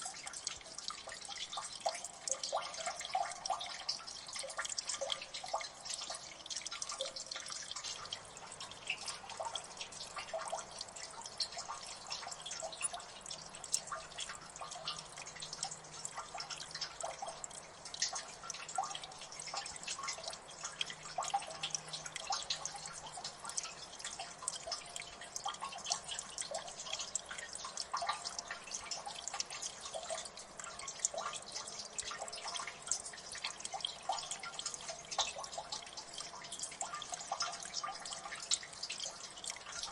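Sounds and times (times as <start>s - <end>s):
faint water trickle: 0.0s - 39.9s
water dripping: 0.0s - 39.9s.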